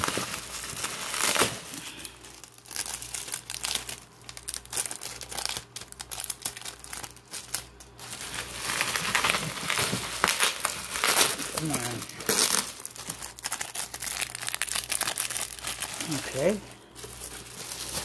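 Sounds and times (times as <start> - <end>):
bubble wrap crackling: 0.0 - 18.0.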